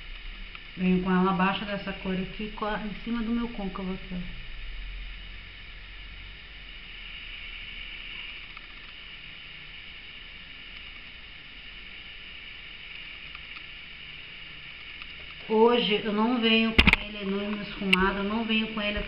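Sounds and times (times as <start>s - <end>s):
faint low hum: 0.0s - 19.0s
steady hiss: 0.0s - 19.0s.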